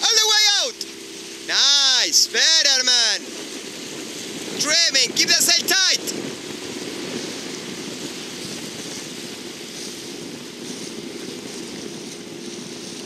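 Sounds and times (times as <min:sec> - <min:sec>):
motorboat engine droning: 0:00.0 - 0:13.0
water rushing: 0:00.0 - 0:13.0
wind rushing: 0:00.0 - 0:13.0.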